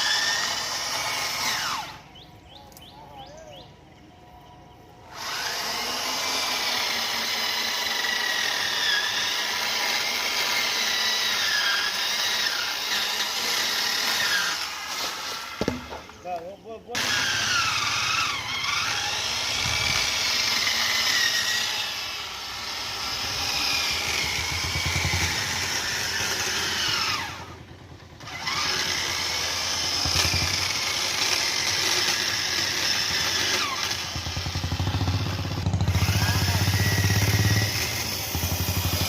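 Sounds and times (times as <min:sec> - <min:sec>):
chainsaw cutting: 0:00.0 - 0:02.2, 0:05.0 - 0:39.0.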